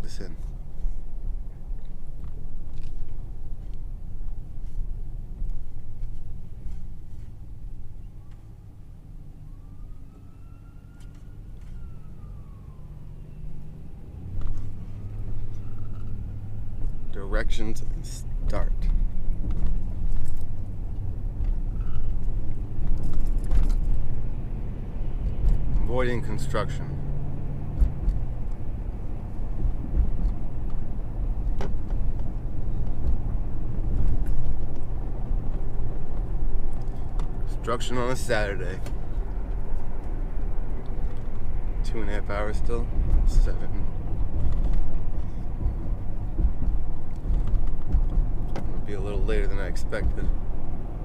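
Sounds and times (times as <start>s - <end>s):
road noise: 0.0s - 51.0s
truck engine rumble: 0.0s - 51.0s.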